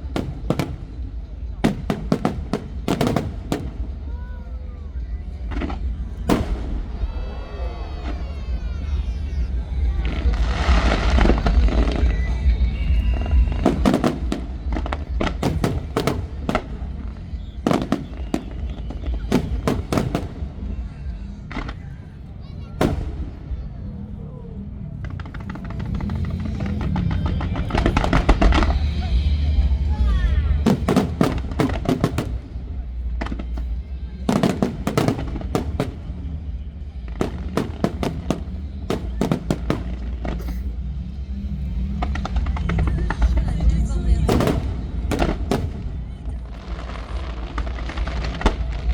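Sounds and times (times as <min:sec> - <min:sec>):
fireworks bangs: 0:00.0 - 0:48.9
low rumble: 0:00.0 - 0:48.9.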